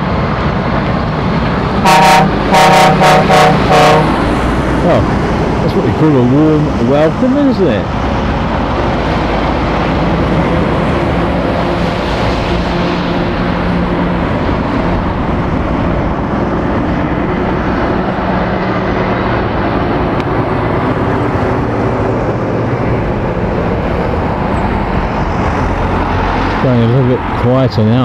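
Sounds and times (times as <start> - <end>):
lorry diesel engines: 0.0 - 28.0.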